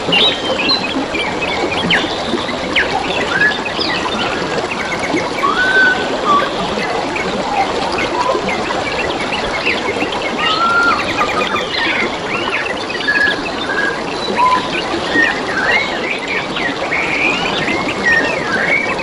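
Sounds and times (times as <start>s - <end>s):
babbling flowing water: 0.0s - 19.0s
songbirds chirping and whistling: 0.1s - 19.0s.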